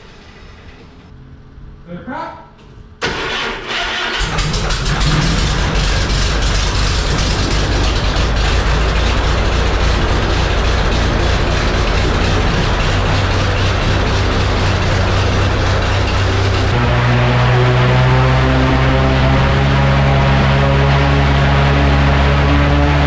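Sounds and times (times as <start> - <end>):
aircraft engine starting and running: 3.0 - 23.0.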